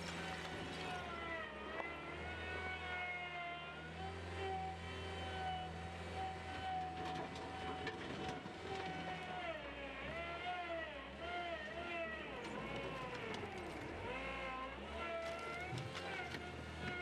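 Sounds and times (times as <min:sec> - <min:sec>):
loader engine rumble with whine: 0:00.0 - 0:17.0.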